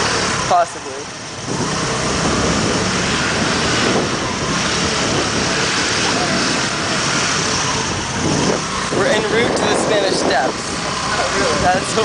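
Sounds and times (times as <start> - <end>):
motor scooter engine: 0.0 - 12.0
wind and road noise: 0.0 - 12.0.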